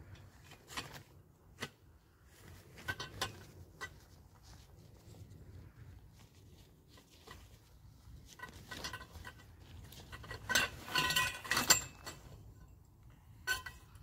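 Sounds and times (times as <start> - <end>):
metal tent poles clinking: 0.0 - 4.6, 6.9 - 14.0.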